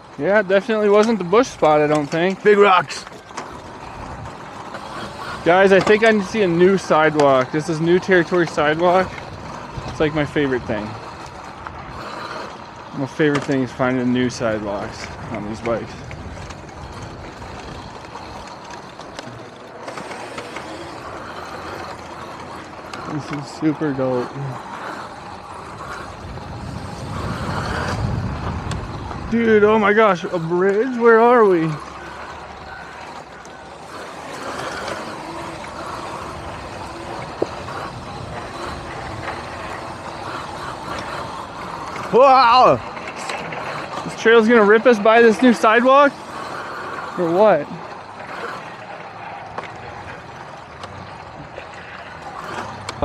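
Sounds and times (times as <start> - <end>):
faint motor whine: 0.0 - 53.0
tyre noise: 0.0 - 53.0
wind buffeting microphone: 0.0 - 53.0.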